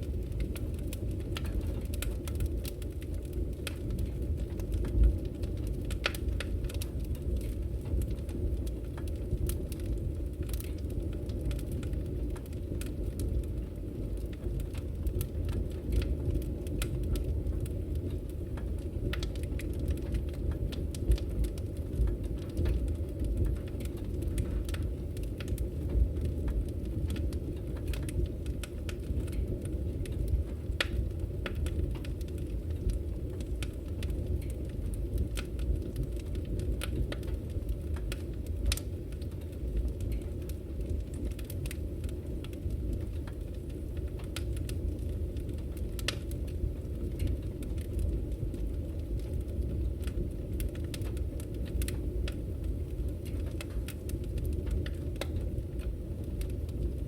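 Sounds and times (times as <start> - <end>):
low rumble of fire: 0.0 - 57.0
wood fire crackling and popping: 0.0 - 57.0.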